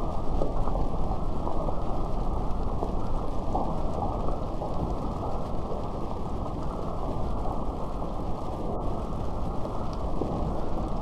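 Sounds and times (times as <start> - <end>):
muffled rain patter: 0.0 - 11.0.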